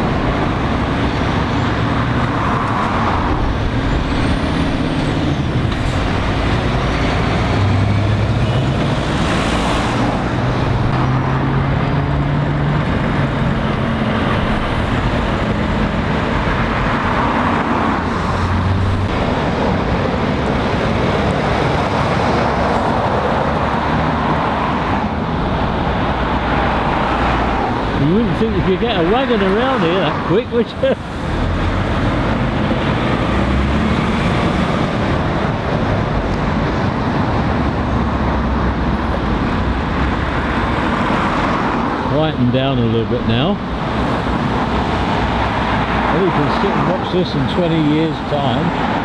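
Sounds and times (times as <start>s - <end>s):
cars passing: 0.0s - 49.0s
lorry diesel engines droning: 0.0s - 49.0s.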